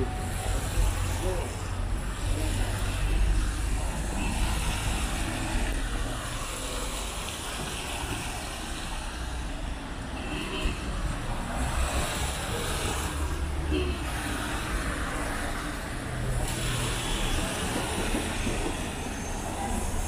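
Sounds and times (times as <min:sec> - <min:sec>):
traffic hiss on wet road: 0:00.1 - 0:20.0.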